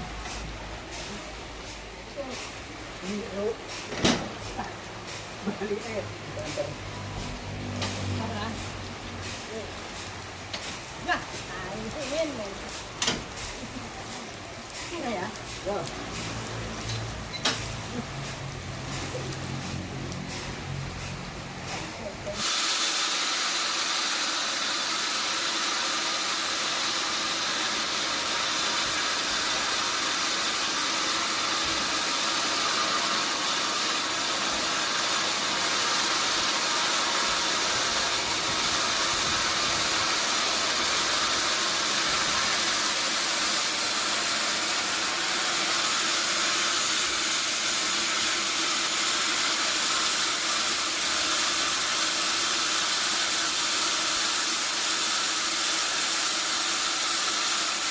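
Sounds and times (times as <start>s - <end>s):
sawmill machinery hissing: 0.0s - 57.9s.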